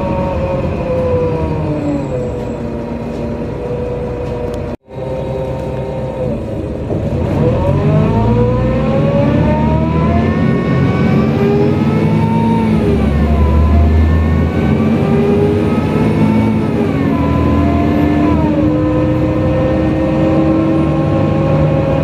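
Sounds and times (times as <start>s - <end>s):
bus engine running and accelerating: 0.0s - 22.0s
drivetrain whine rising: 0.0s - 22.0s.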